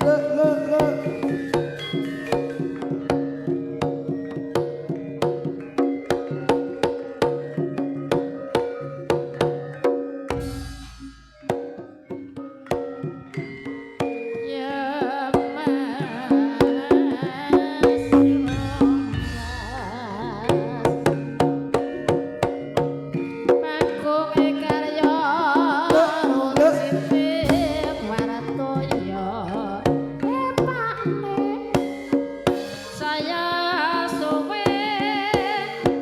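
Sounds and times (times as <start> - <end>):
melody with strong vibrato: 0.0 - 33.9
hand drum beating: 0.0 - 36.0.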